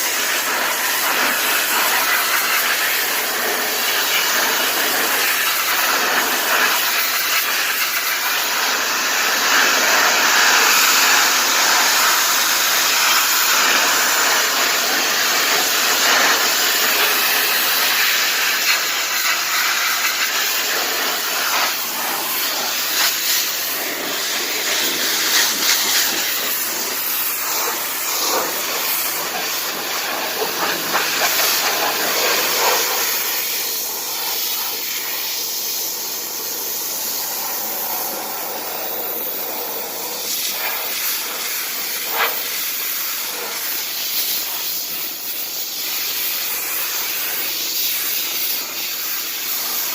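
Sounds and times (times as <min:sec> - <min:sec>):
pressure washer spray hissing: 0:00.0 - 0:49.9.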